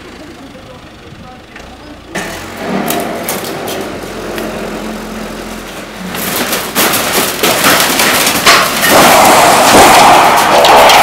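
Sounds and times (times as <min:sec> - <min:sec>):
backhoe engine running: 0:00.0 - 0:11.0
sheet metal crunching and bending: 0:02.2 - 0:11.0.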